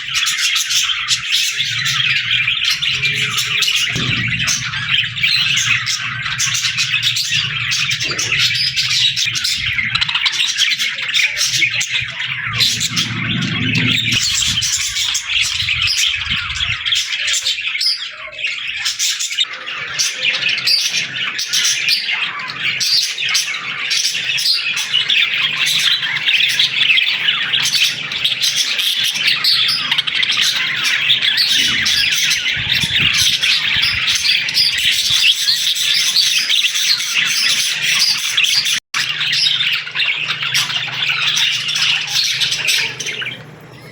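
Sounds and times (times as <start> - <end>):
bird squawk: 0.0 - 43.9
flock of birds chirping: 0.0 - 43.9.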